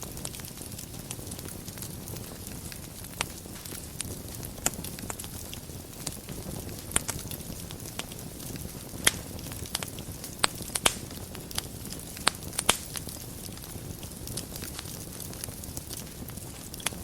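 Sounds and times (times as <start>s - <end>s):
burning wood popping: 0.0s - 17.0s
wood fire crackling: 0.0s - 17.0s.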